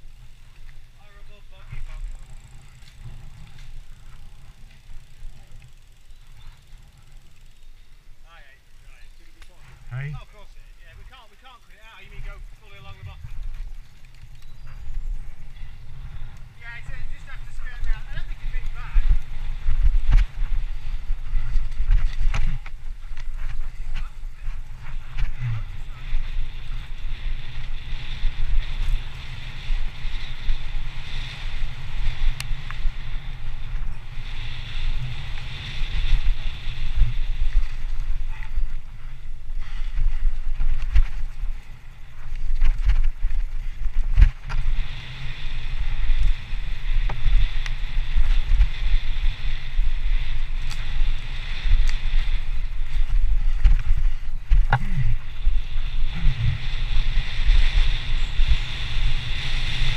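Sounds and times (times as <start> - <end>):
wind buffeting microphone: 11.9 - 59.9.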